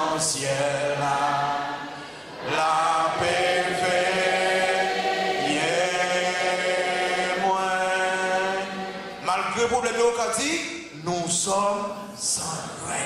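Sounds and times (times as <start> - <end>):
man singing a hymn: 0.0 - 1.8, 2.4 - 4.7, 5.4 - 13.0.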